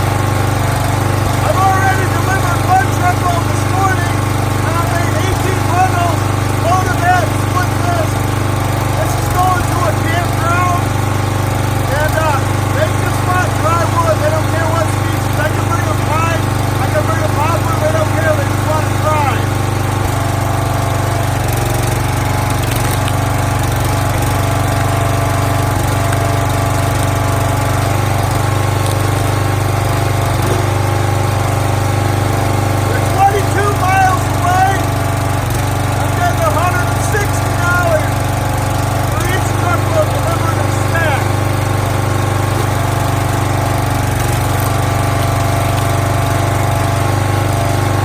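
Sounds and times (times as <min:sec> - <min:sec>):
small gas engine running: 0:00.0 - 0:48.0.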